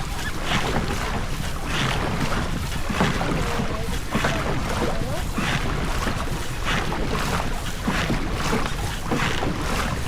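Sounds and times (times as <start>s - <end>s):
water rushing past boat: 0.0s - 10.0s.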